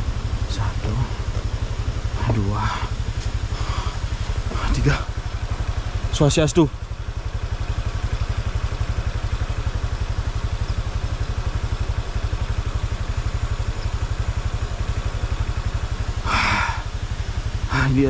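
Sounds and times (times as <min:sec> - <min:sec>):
motorcycle engine at low revs: 0:00.0 - 0:18.0
road and wind noise: 0:00.0 - 0:18.0.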